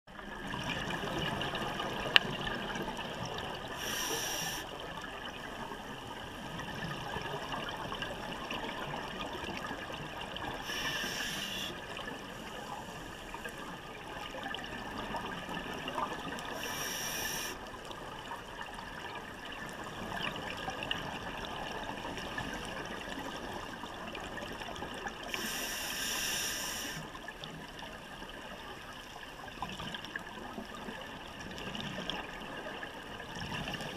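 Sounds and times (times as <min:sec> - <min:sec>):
muffled water hiss: 0:00.1 - 0:33.9.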